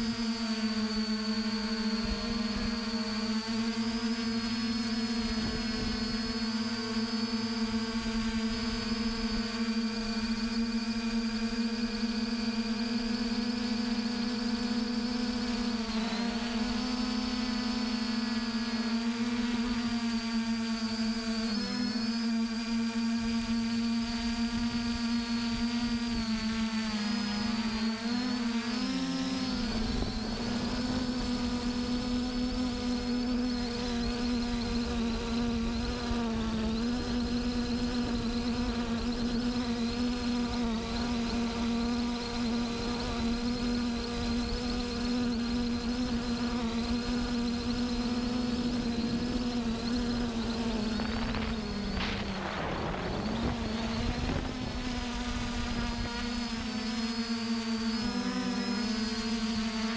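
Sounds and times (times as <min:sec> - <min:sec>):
flying insect buzzing: 0:00.0 - 0:59.9.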